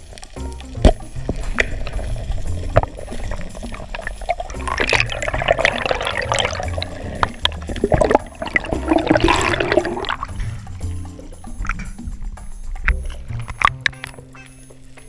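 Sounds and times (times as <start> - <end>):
water gurgling underwater: 0.0 - 14.0.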